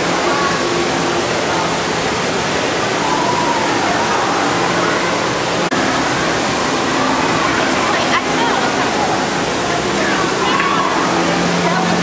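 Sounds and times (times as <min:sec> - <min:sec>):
aquarium water bubbling: 0:00.0 - 0:12.0
faint voices: 0:00.0 - 0:12.0.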